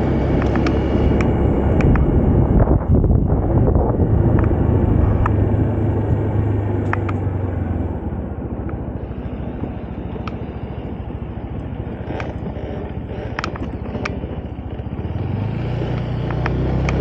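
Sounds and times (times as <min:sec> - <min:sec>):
road and wind noise: 0:00.0 - 0:17.0
scooter engine humming: 0:00.0 - 0:17.0.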